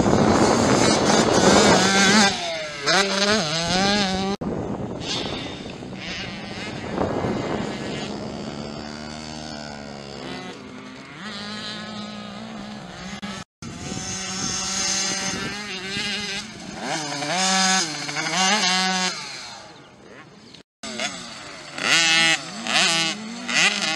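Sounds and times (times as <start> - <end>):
two-stroke engines revving: 0.0 - 23.9.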